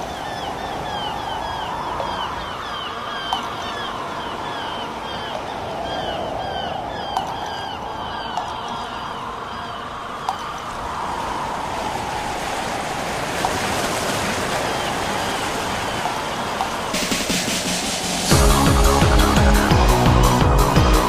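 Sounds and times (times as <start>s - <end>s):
rushing wind: 0.0s - 21.0s.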